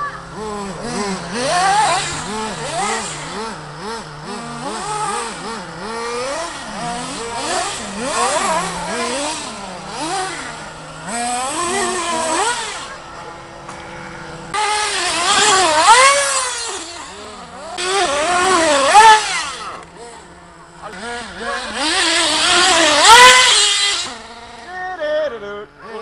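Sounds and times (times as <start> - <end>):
model car motor revving: 0.0 - 25.0.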